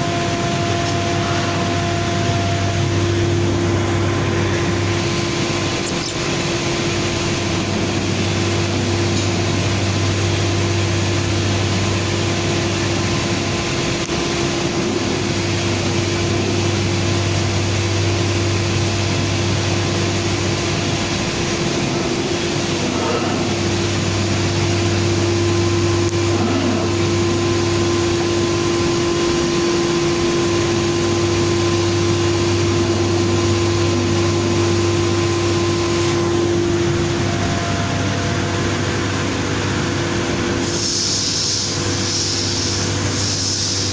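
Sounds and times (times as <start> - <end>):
router spindle whine: 0.0 - 40.8
machine hum: 0.0 - 43.9.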